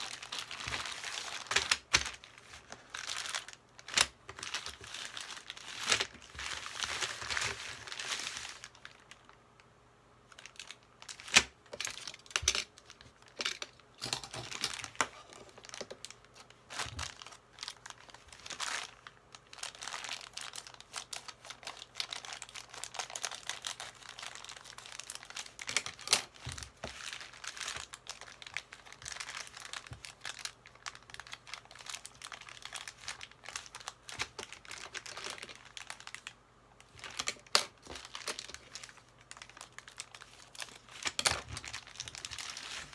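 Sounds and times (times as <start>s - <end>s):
plastic packaging crinkling: 0.0s - 9.7s, 10.3s - 42.9s.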